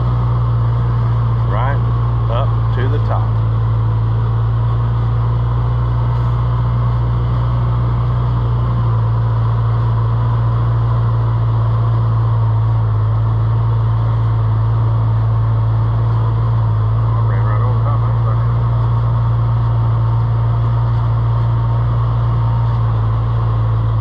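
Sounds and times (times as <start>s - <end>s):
engine low drone: 0.0s - 24.0s.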